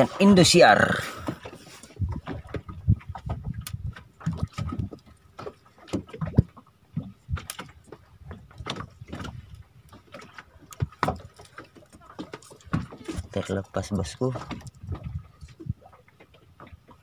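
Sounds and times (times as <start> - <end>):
splashes and knocks: 0.0 - 17.0
water slapping against boat hull: 0.0 - 17.0.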